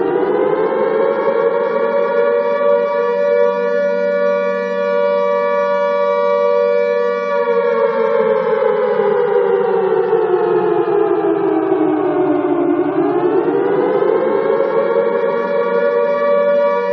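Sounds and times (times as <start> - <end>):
alarm siren wailing: 0.0 - 16.9.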